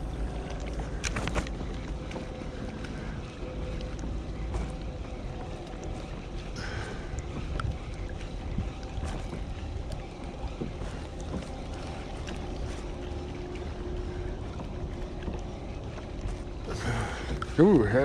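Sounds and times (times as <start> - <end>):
waves slapping kayak hull: 0.0 - 18.0.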